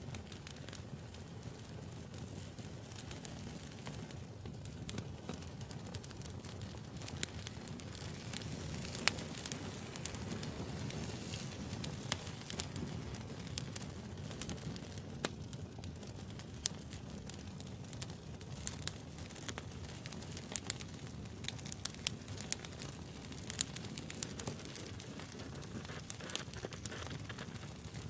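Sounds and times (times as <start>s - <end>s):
low rumble of flames: 0.0s - 28.0s
wood fire crackling: 0.0s - 28.0s.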